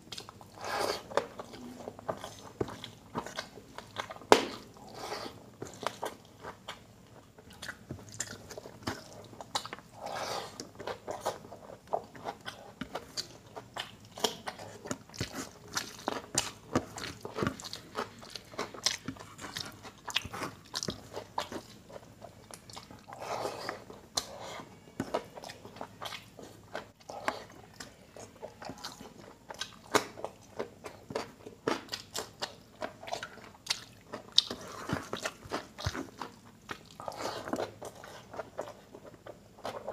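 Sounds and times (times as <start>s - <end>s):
man chewing food: 0.0s - 39.9s.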